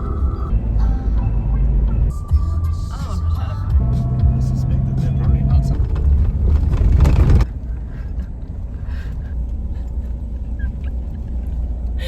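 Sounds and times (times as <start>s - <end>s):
car road rumble inside cabin: 0.0s - 12.0s.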